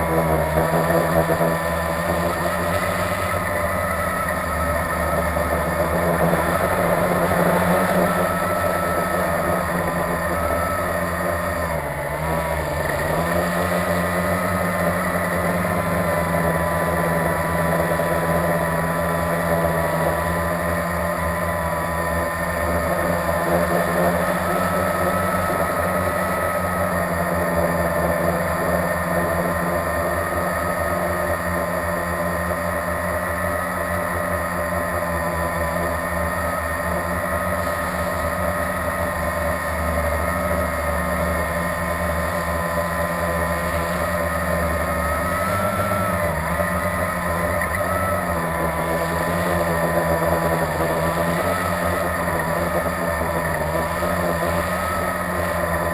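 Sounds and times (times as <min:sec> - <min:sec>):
quadcopter propellers buzzing: 0:00.0 - 0:55.9.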